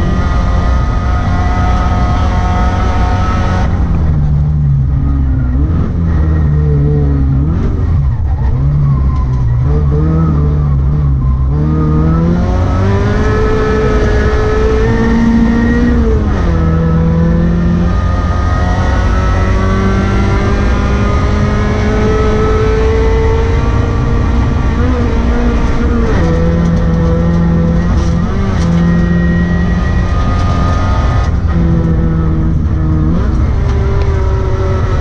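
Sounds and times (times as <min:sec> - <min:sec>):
rally car engine revving: 0:00.0 - 0:35.0.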